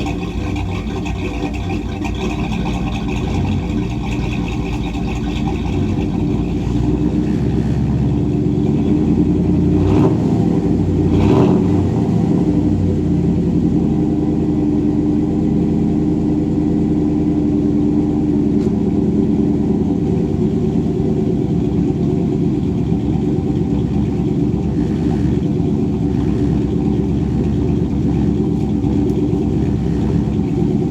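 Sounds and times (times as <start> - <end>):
engine idling and revving: 0.0 - 30.9.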